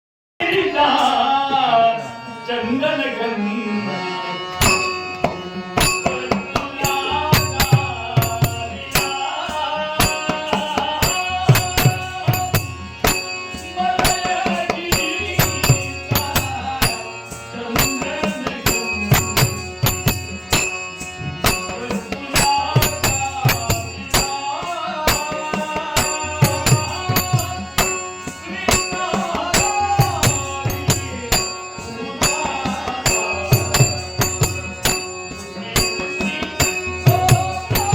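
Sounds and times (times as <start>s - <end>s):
drum strokes: 4.6s - 37.9s
jingling hand cymbals: 4.6s - 37.9s.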